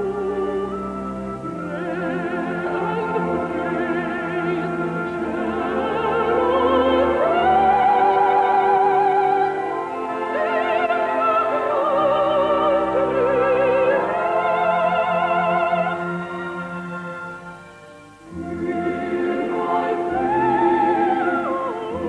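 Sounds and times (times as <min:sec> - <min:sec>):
woman singing opera: 0:00.0 - 0:17.6, 0:18.3 - 0:22.0
instrumental accompaniment: 0:00.0 - 0:22.0.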